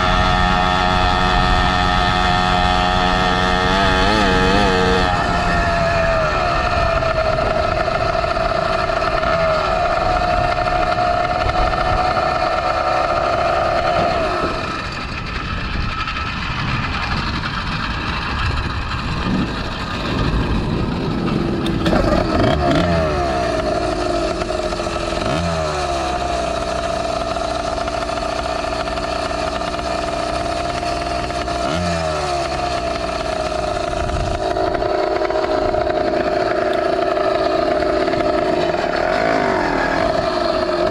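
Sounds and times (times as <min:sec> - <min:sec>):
wind rumble: 0:00.0 - 0:31.5, 0:32.8 - 0:40.9
two-stroke engine revving: 0:00.0 - 0:40.9.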